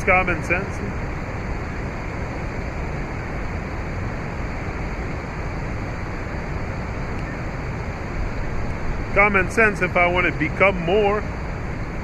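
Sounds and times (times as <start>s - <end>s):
steady rushing noise with rumble: 0.0s - 12.0s.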